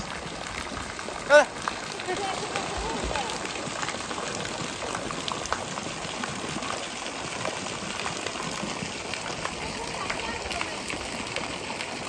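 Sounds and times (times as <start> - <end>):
droplets splashing on water: 0.0 - 12.0.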